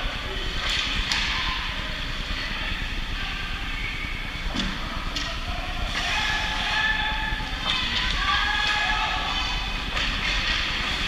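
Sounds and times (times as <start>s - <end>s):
faint voices: 0.0s - 11.0s
game hall crowd noise: 0.0s - 11.0s.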